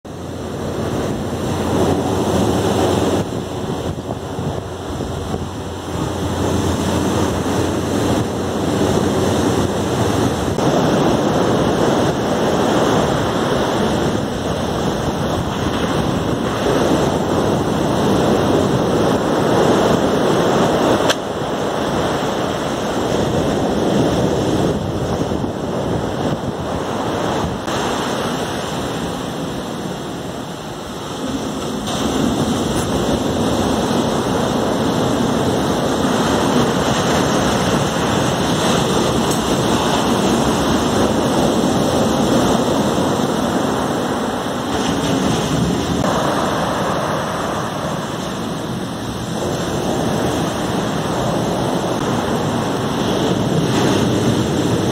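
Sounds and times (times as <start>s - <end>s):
wind buffeting microphone: 0.0s - 54.9s
ocean surf breaking on beach: 0.1s - 54.9s.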